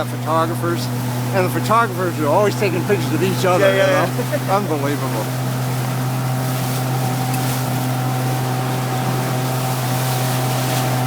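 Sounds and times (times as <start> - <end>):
motorboat engine droning: 0.0 - 11.0
rush of water: 0.0 - 11.0
wind: 0.0 - 11.0.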